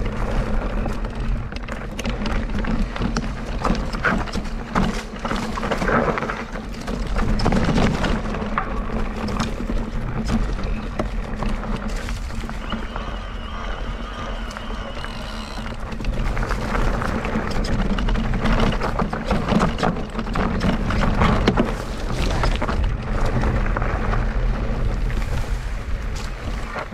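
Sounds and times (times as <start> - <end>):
bike rattles and knocks: 0.0 - 26.9
bike tyre and trail noise: 0.0 - 26.9
wind on microphone: 0.0 - 26.9.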